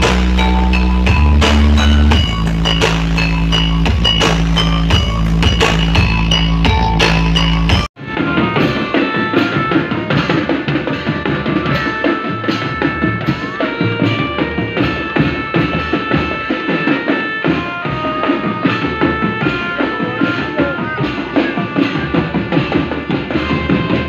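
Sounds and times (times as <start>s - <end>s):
drum-led music with held notes: 0.0s - 24.0s
loud bass-heavy music: 0.0s - 24.0s.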